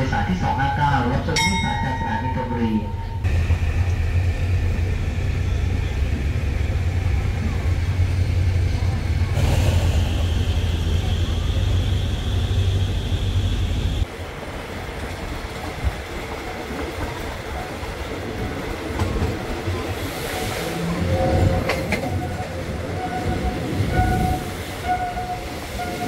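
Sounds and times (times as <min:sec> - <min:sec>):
train rumbling and rattling: 0:00.0 - 0:26.0.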